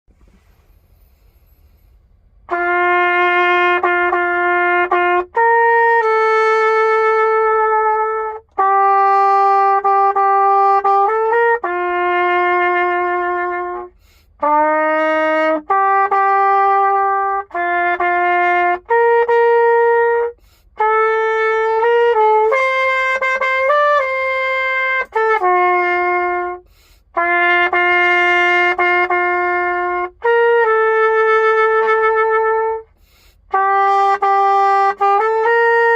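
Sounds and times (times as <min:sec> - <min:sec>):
solo trumpet melody: 0:00.2 - 0:35.9.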